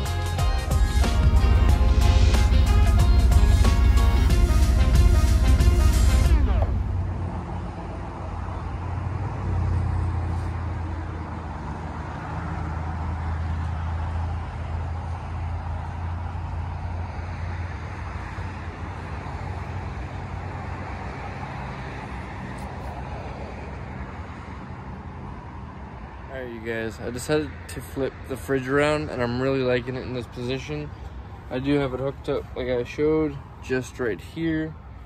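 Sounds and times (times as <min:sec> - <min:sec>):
rumble of passing vehicles: 0:00.0 - 0:35.0.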